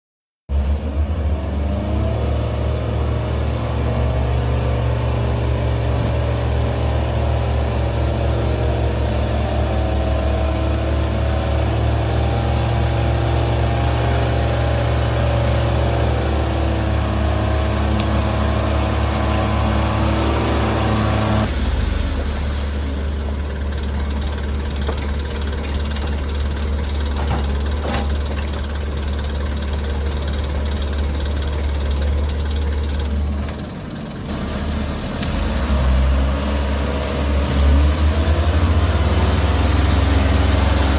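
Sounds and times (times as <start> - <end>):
heavy diesel engines running: 0.5 - 40.9.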